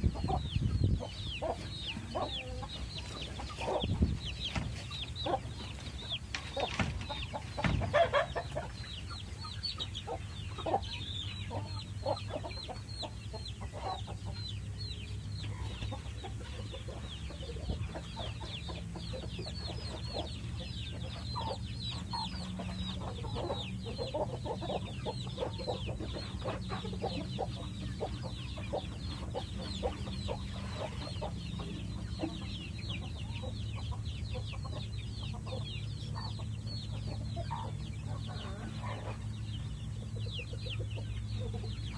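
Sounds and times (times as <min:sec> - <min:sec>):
chickens clucking: 0:00.0 - 0:41.9
steady low hum: 0:00.0 - 0:41.9.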